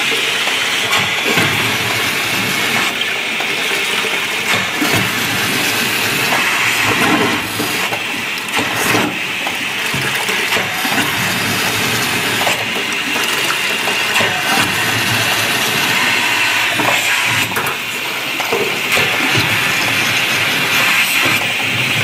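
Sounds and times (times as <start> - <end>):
vacuum pump running: 0.0 - 22.0.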